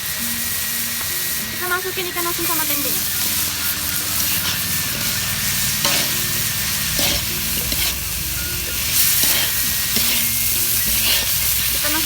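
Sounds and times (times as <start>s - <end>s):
stir-fry sizzling in a pan: 0.0s - 12.0s
spatula scraping a pan: 2.3s - 12.0s.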